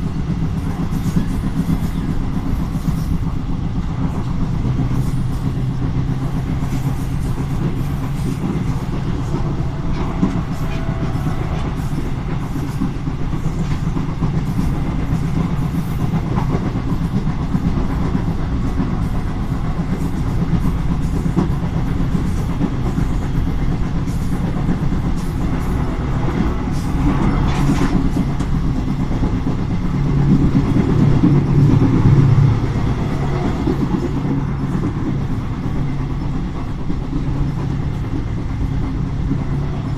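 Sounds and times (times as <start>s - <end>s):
train rumbling: 0.0s - 39.9s
wheels clicking over rail joints: 0.0s - 39.9s.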